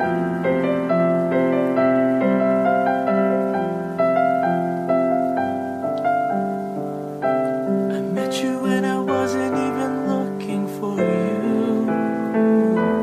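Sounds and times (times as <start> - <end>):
solo piano broken chords: 0.0 - 13.0.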